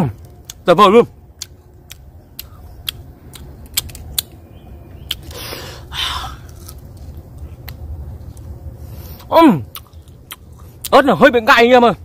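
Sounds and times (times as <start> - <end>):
chewing crunchy fruit: 0.1 - 0.7, 1.3 - 4.4, 5.0 - 11.1.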